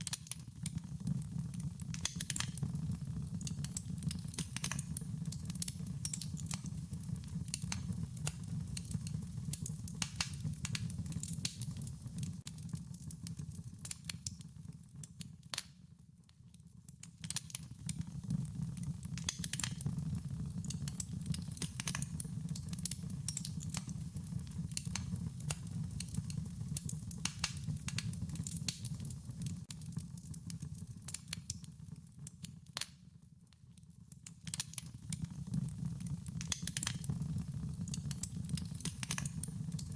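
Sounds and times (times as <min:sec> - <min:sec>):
wood fire crackling: 0:00.0 - 0:33.1, 0:34.1 - 0:39.9.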